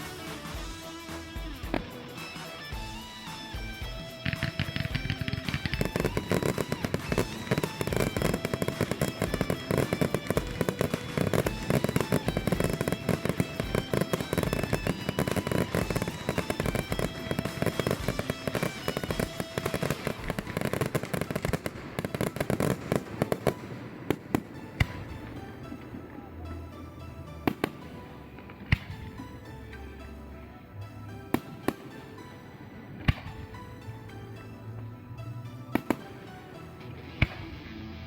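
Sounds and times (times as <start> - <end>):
background music: 0.0 - 38.0
fireworks bursting and crackling: 0.0 - 38.0.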